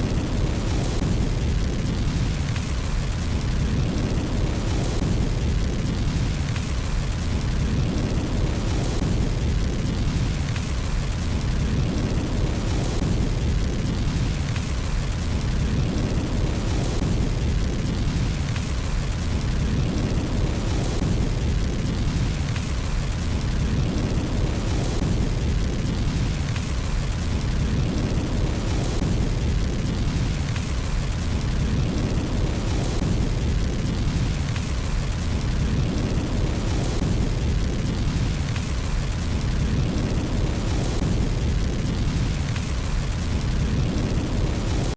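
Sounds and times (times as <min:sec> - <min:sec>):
faint fire pops: 0:00.0 - 0:44.9
fire rumbling and hissing: 0:00.0 - 0:44.9.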